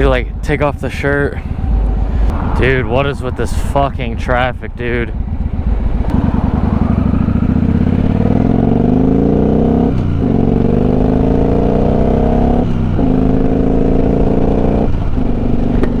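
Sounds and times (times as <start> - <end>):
motorcycle engine accelerating: 1.4 - 16.0.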